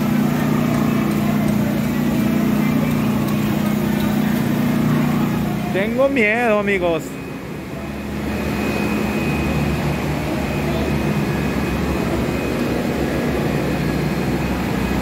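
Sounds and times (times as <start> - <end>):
industrial machinery droning: 0.0 - 15.0.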